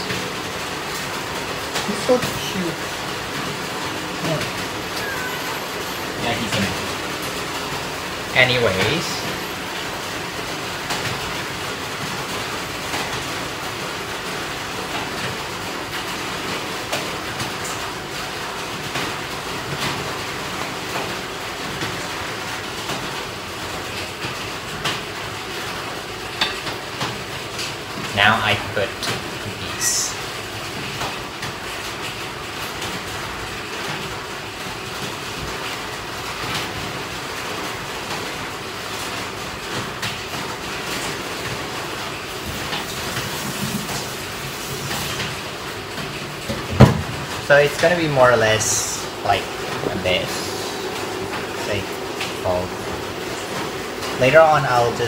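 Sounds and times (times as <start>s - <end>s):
loud rain hissing: 0.0s - 55.0s.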